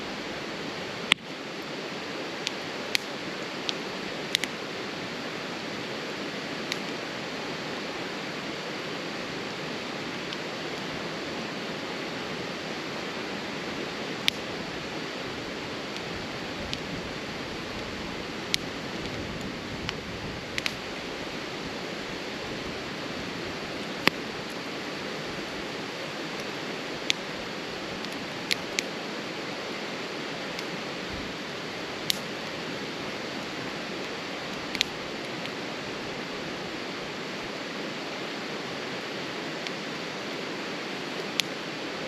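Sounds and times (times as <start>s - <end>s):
steady rushing hiss: 0.0s - 42.0s
campfire crackling and popping: 0.1s - 42.0s.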